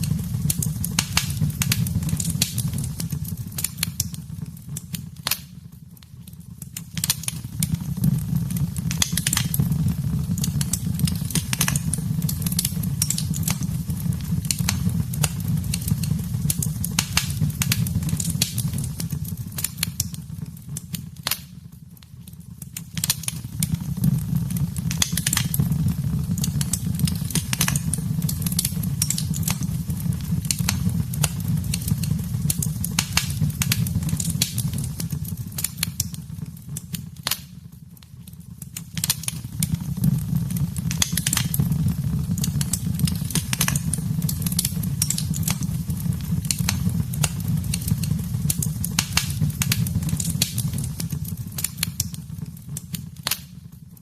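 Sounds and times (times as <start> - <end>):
burning wood crackling and popping: 0.0 - 54.0
fireplace flames roaring: 0.0 - 54.0.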